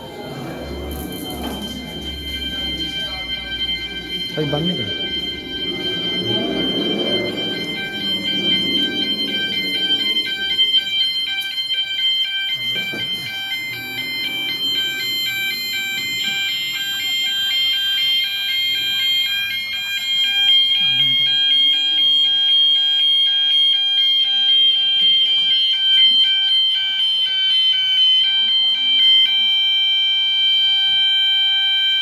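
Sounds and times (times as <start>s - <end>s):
steady high-pitched tone: 0.0s - 28.9s
pulsing electronic alarm tones: 0.0s - 32.0s.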